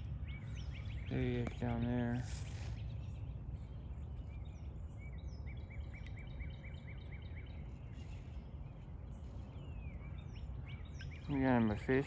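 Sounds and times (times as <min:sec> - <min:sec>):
small bird chirping: 0:00.1 - 0:12.0.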